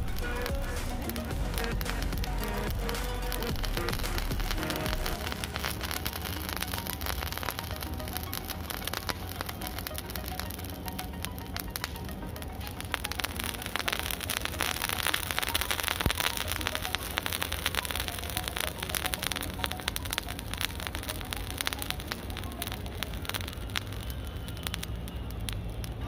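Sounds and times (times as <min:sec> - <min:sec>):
chemical mixture crackling: 0:00.0 - 0:26.0
steady hiss: 0:00.0 - 0:26.0.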